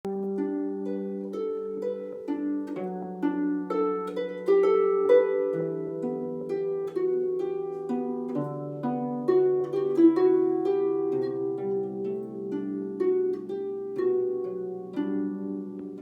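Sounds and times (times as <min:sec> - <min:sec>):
harp playing a melody: 0:00.1 - 0:16.0.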